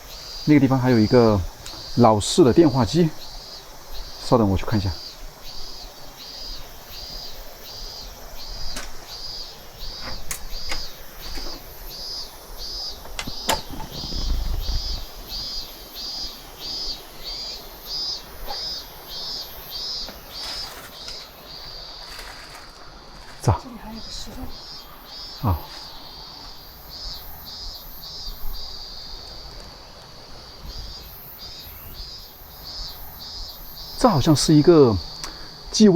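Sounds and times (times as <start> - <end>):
insect chirping: 0.0 - 35.9.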